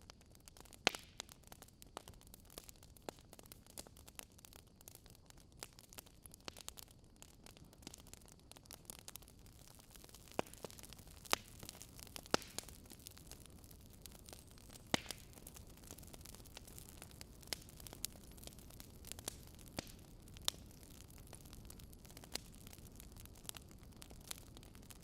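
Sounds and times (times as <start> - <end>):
fire crackling and popping: 0.0 - 25.0
low steady hiss and rumble: 0.0 - 25.0.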